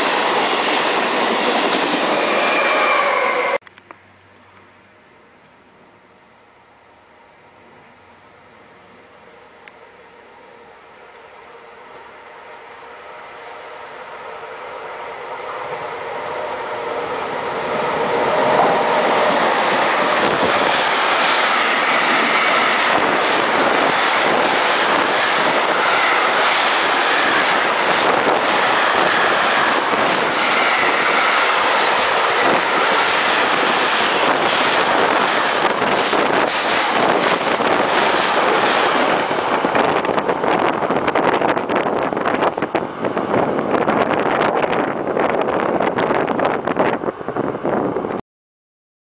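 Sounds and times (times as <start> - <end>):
freight train rolling rumble: 0.0 - 3.6, 6.8 - 48.2.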